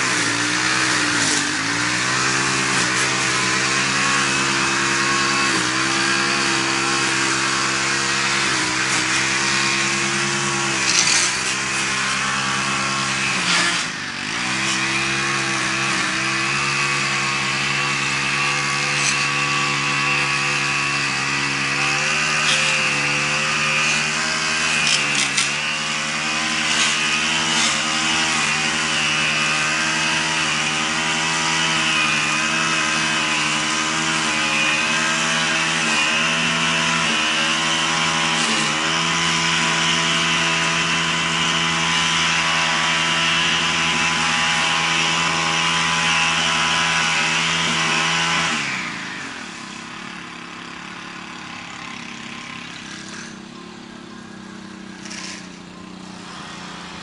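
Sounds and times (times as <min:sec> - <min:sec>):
lawn mower engine cutting grass: 0:00.0 - 0:57.0.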